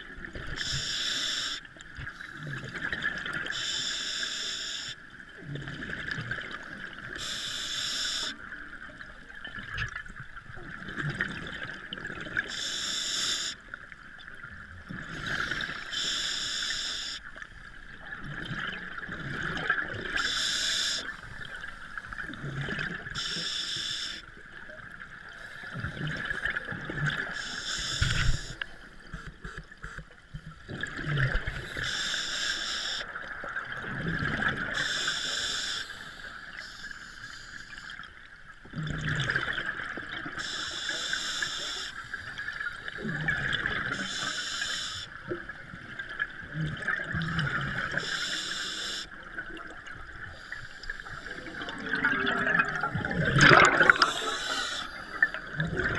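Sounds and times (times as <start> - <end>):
scuba regulator breathing and bubbling: 0.4 - 8.6, 11.0 - 13.6, 15.0 - 17.4, 18.3 - 24.3, 25.2 - 38.0, 38.7 - 45.4, 46.0 - 55.9.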